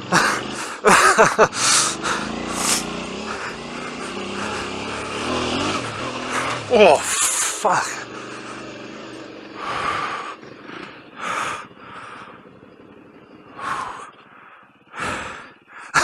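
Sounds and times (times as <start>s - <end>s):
motorcycle engine idling: 0.0s - 16.0s
person breathing heavily: 0.0s - 16.0s.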